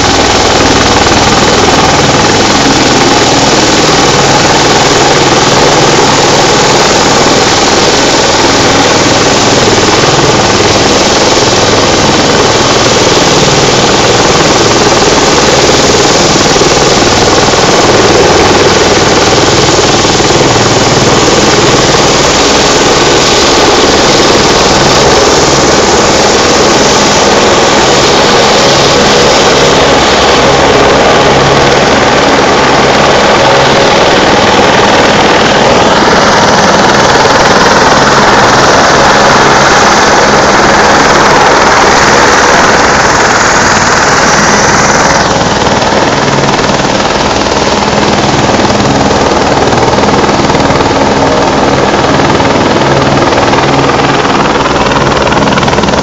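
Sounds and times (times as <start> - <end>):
helicopter rotor and turbine engine: 0.0 - 56.0.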